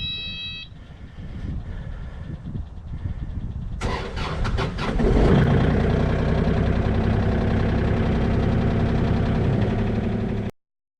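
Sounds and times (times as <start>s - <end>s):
vehicle engine droning: 0.8s - 10.5s.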